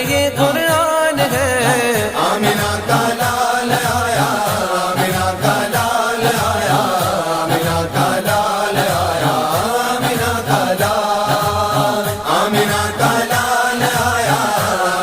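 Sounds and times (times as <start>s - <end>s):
low rhythmic beat: 0.0s - 15.0s
solo voice singing devotional song: 0.0s - 15.0s.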